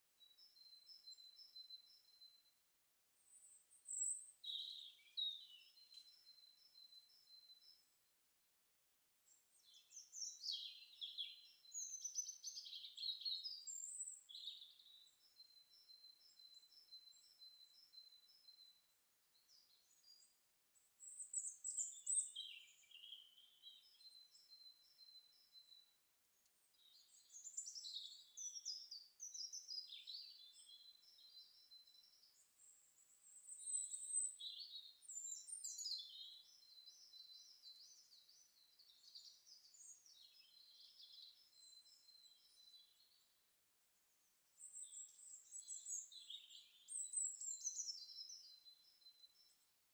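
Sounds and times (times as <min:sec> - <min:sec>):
songbirds singing faintly: 0:00.0 - 0:49.9.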